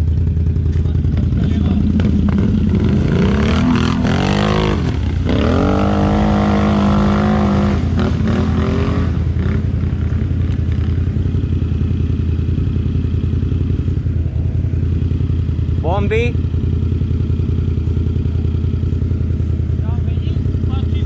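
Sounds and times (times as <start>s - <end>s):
quad bike engine idling: 0.0s - 21.0s
quad bike engine revving: 0.0s - 21.0s.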